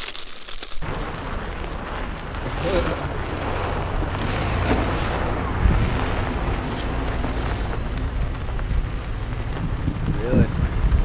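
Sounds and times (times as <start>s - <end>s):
tyre and road rumble: 0.0s - 11.0s
wind rushing on microphone: 0.8s - 11.0s.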